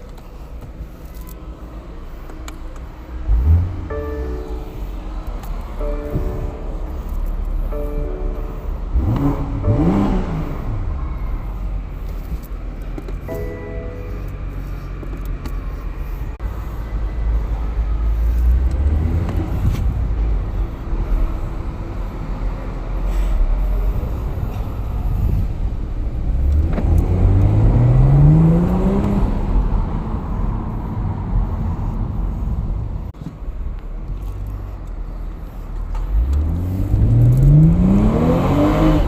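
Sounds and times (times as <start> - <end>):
car engine accelerating: 0.0 - 33.1, 34.1 - 39.0.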